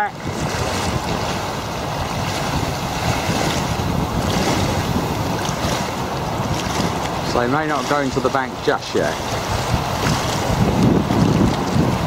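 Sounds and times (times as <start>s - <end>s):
gusty wind buffeting microphone: 0.0s - 12.0s
waves on a choppy lake: 0.0s - 12.0s.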